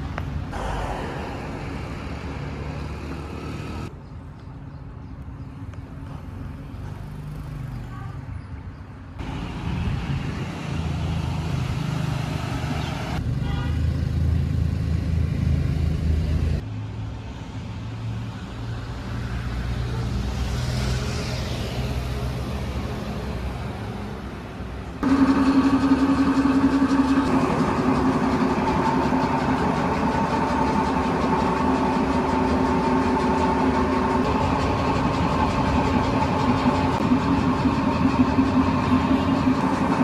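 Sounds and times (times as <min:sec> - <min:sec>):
vehicle engine humming: 0:00.0 - 0:04.0, 0:09.2 - 0:16.7, 0:19.5 - 0:40.0.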